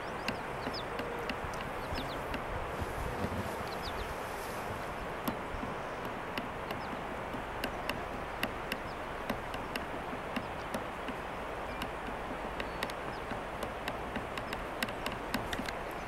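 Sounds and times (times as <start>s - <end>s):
sharp irregular clicks: 0.0s - 2.6s, 4.8s - 16.0s
river rushing: 0.0s - 16.0s.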